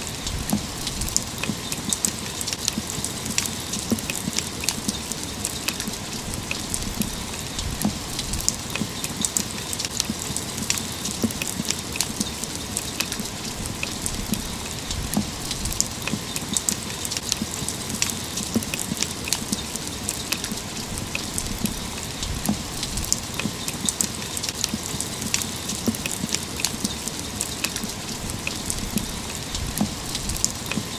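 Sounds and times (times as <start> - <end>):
rain drops ticking on hard surface: 0.0 - 30.9.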